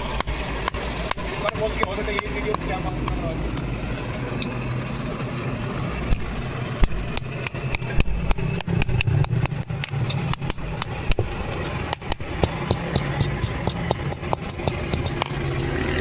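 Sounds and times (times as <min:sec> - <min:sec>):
hammer striking iron on anvil: 0:00.0 - 0:04.6, 0:06.1 - 0:16.0
steady low hum: 0:00.0 - 0:16.0.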